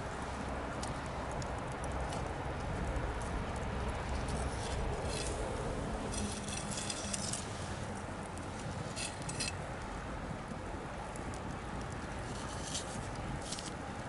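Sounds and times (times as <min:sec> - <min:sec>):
bonfire crackling: 0:00.0 - 0:14.0
fire pops and snaps: 0:00.0 - 0:14.0
low rumble and hiss: 0:00.0 - 0:14.0.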